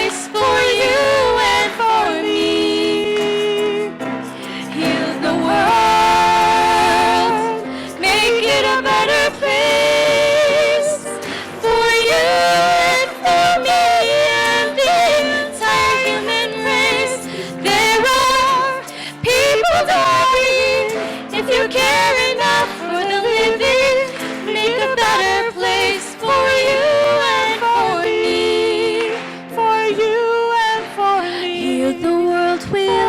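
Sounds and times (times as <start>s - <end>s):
woman singing: 0.0s - 4.0s, 4.6s - 33.0s
sustained accompaniment: 0.0s - 29.3s.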